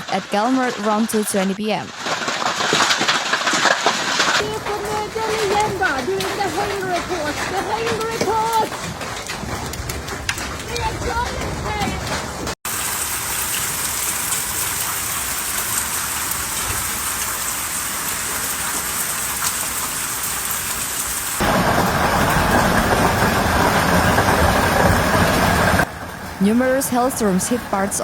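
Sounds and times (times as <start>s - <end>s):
hail and heavy rain pelting: 0.0s - 28.0s.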